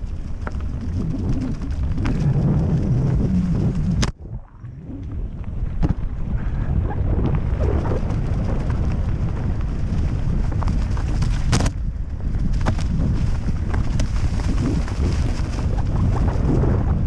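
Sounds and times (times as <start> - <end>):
bike rattling: 0.0 - 4.2, 4.8 - 17.0
bike tyres on dirt trail: 0.0 - 17.0
wind rumbling on microphone: 0.0 - 17.0.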